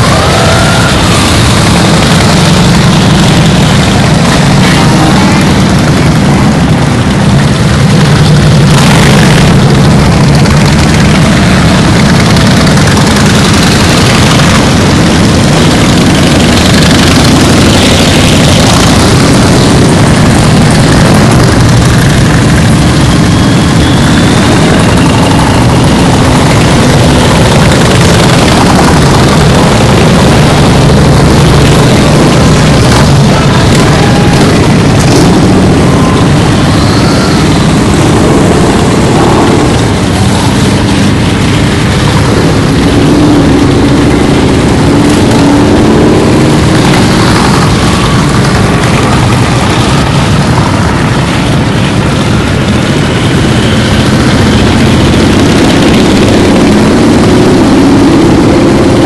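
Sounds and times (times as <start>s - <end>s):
motorcycle engines droning: 0.0s - 59.0s.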